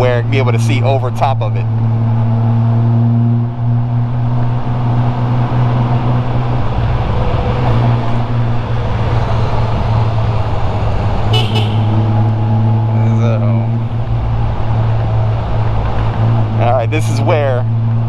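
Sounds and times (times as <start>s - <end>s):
motorcycle engine humming: 0.0s - 18.0s
wind and road noise: 0.0s - 18.0s.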